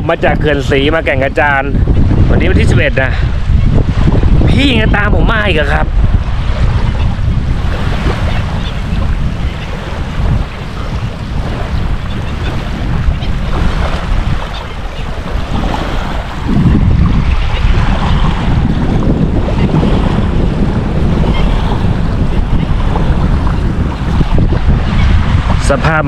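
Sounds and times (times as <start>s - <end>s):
waves lapping at shore: 0.0s - 26.0s
wind buffeting microphone: 0.0s - 26.0s.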